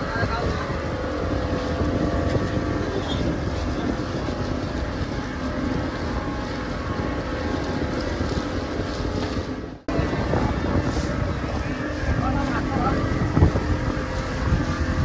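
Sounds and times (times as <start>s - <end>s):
motorboat engine running: 0.0s - 15.0s
wind on microphone: 0.0s - 15.0s.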